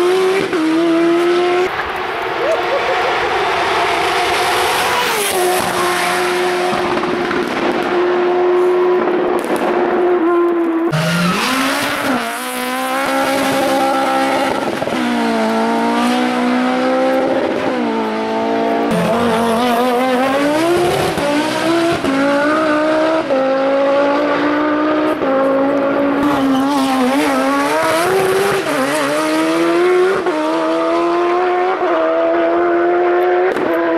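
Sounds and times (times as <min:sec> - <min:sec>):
rally car engine revving: 0:00.0 - 0:33.9.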